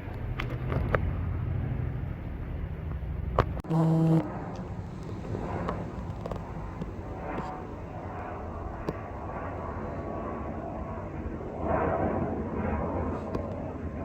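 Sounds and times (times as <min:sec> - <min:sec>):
aircraft rumble: 0:00.0 - 0:14.0.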